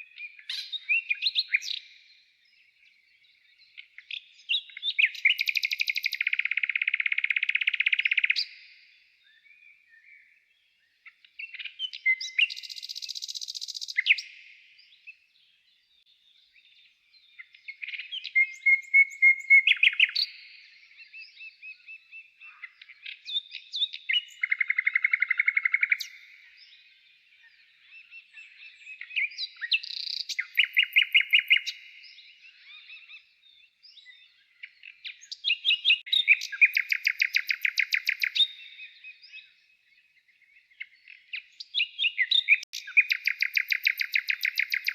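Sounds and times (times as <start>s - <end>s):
songbird trilling: 0.0s - 2.0s, 3.7s - 9.4s, 11.0s - 15.0s, 17.4s - 39.7s, 40.6s - 44.9s.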